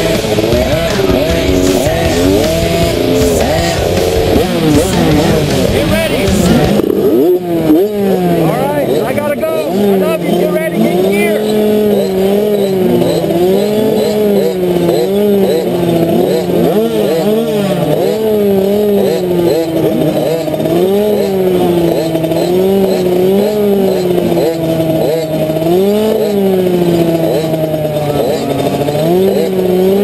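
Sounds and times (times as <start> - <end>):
dirt bikes revving: 0.0 - 30.0
motocross bike engine revving: 0.0 - 30.0.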